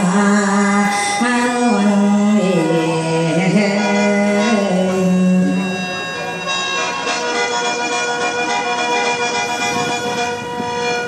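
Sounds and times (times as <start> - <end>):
mouth organ drone and melody: 0.0 - 11.0.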